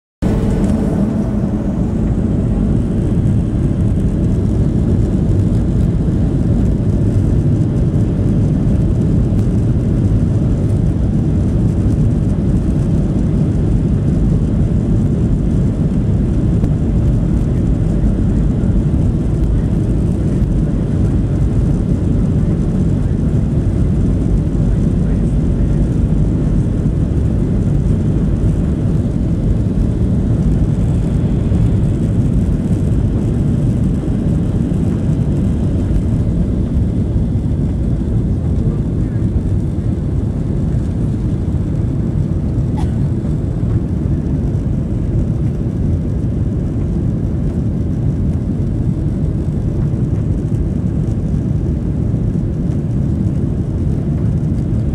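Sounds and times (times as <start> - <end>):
jet engines heard from cabin: 0.2 - 54.9.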